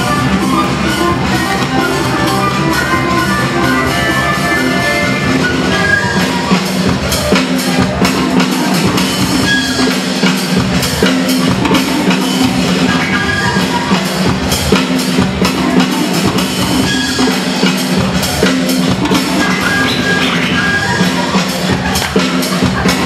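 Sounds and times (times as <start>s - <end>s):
breakbeat music over sound system: 0.0s - 23.0s.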